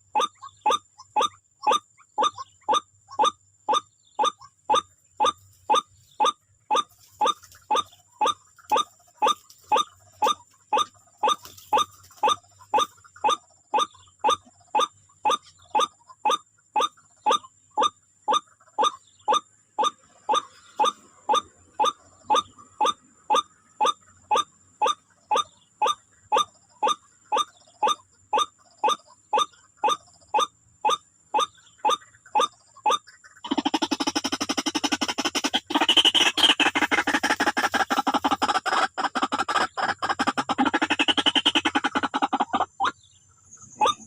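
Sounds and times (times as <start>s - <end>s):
bird calling harsh notes: 0.0s - 44.0s.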